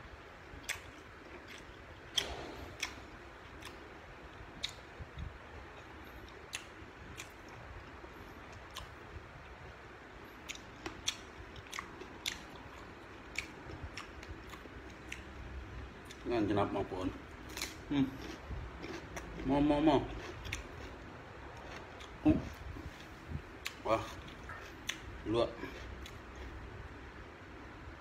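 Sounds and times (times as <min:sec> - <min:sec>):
crunchy chewing of vegetables: 0:00.3 - 0:09.6, 0:10.2 - 0:27.0.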